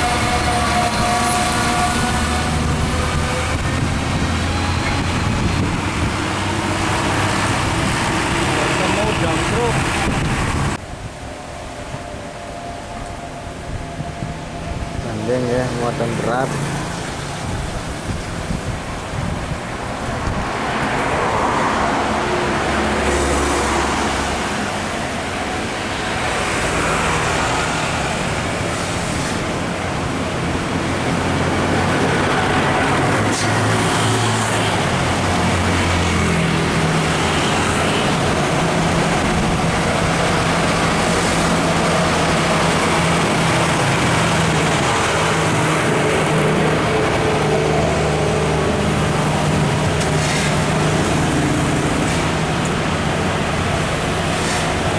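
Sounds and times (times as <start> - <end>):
diesel truck engine passing: 0.0 - 10.8, 14.7 - 54.9
road traffic noise: 0.0 - 54.9.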